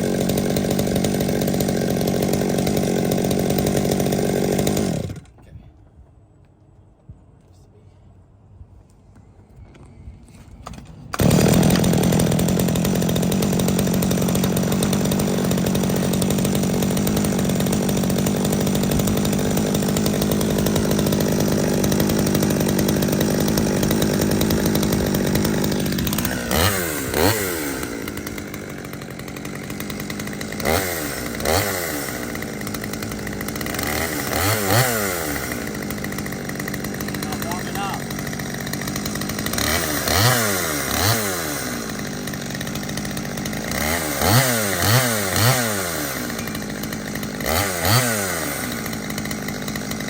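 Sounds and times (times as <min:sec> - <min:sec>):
chainsaw running and revving: 0:00.0 - 0:05.4, 0:11.2 - 0:50.0.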